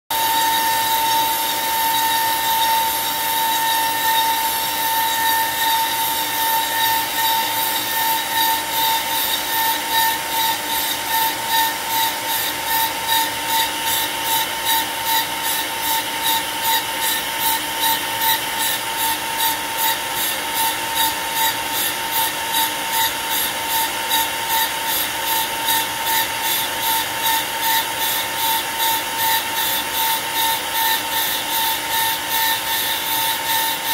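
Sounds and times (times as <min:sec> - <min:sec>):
router spindle whine: 0:00.1 - 0:33.9.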